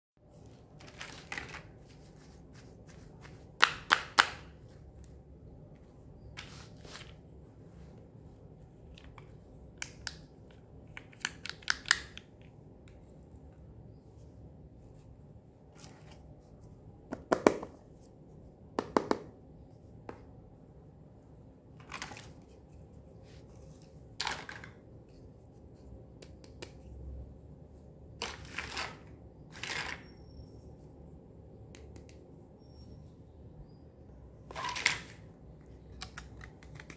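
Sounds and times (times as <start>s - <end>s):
faint steady background noise: 0.2s - 36.9s.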